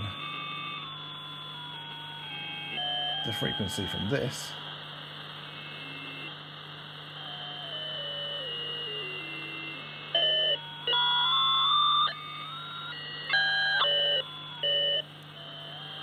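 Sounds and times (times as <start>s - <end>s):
thin radio beat tones: 0.0s - 16.0s.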